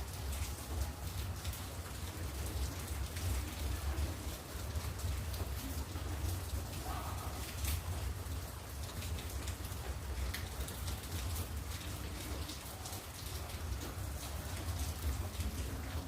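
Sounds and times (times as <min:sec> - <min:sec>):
raindrops ticking: 0:00.0 - 0:16.0
steady rain: 0:00.0 - 0:16.0.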